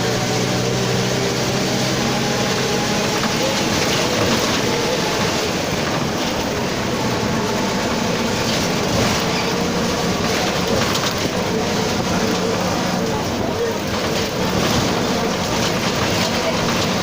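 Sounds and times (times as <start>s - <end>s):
bus engine running: 0.0s - 17.0s
driveshaft growling: 0.0s - 17.0s
road noise: 0.0s - 17.0s.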